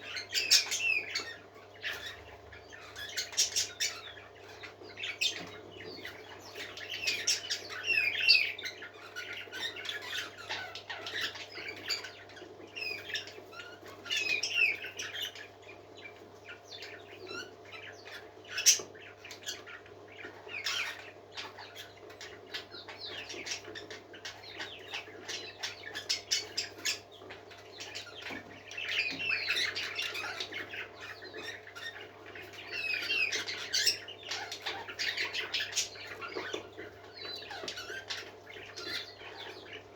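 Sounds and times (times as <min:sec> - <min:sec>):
parakeets chirping and warbling: 0:00.0 - 0:39.9.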